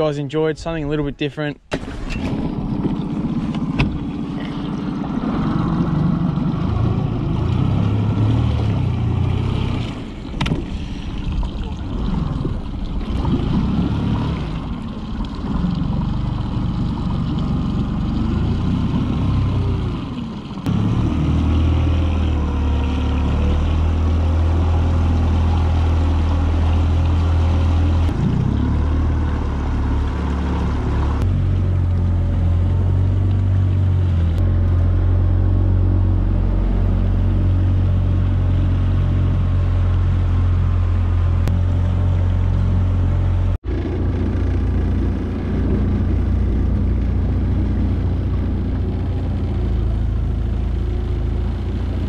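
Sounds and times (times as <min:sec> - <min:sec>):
outboard engine drone: 0:00.0 - 0:52.0
water wash: 0:01.7 - 0:52.0.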